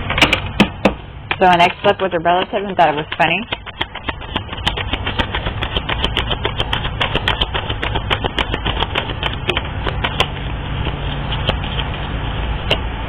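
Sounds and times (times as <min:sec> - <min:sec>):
cards being shuffled: 0:01.4 - 0:12.1.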